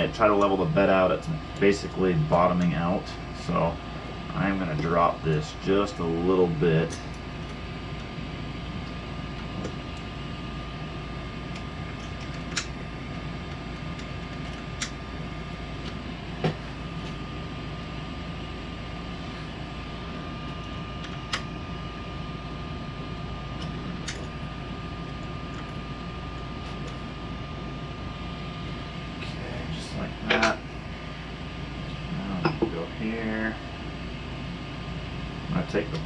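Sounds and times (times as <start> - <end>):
cooling fans humming: 0.0 - 36.0
faint constant whine: 0.0 - 36.0.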